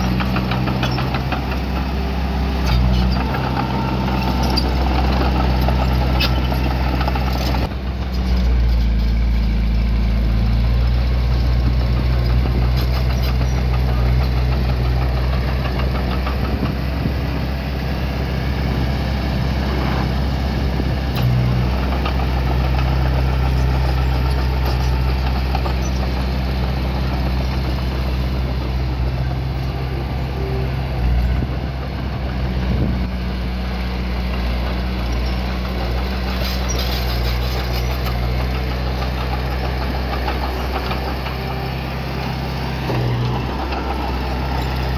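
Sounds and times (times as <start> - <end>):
diesel engine of earthmoving machine: 0.0 - 44.9.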